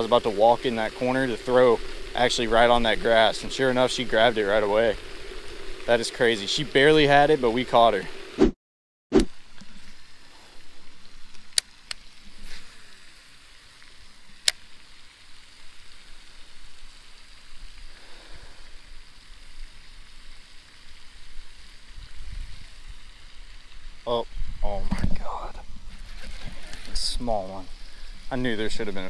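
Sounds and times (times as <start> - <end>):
outdoor hiss: 0.0 - 8.4, 9.2 - 29.0.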